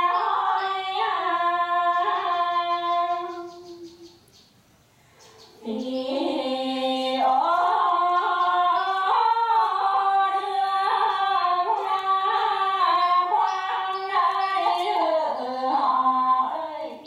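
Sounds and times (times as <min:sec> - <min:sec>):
two women singing folk song: 0:00.0 - 0:04.1, 0:05.6 - 0:17.0.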